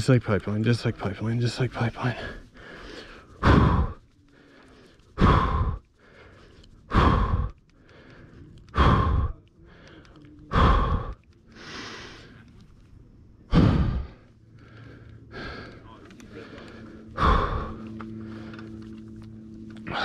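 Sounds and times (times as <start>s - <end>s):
soft hissing breath: 2.3s - 20.0s.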